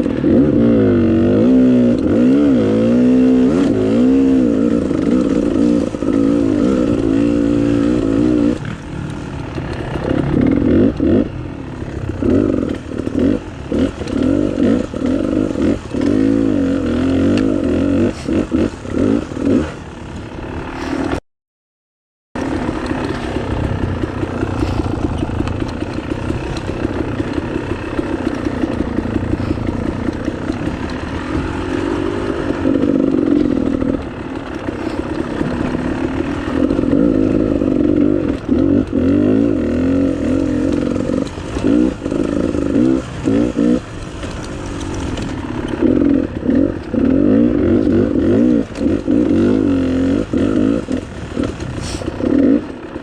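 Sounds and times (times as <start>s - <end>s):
dirt bike engine revving: 0.0s - 21.2s, 22.4s - 53.0s.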